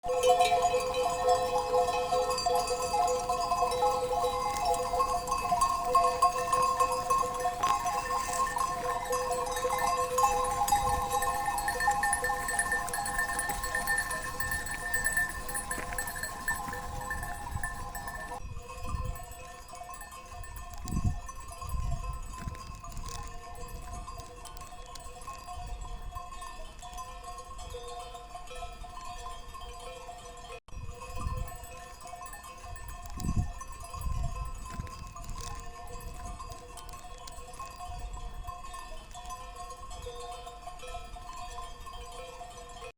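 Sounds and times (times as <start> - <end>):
livestock bells clanking: 0.0 - 42.9.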